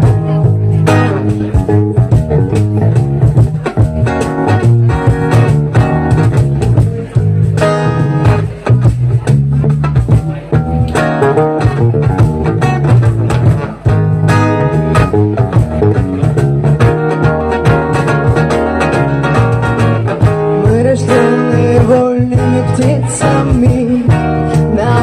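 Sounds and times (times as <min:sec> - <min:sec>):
bass line: 0:00.0 - 0:25.0
guitar strumming: 0:00.0 - 0:25.0.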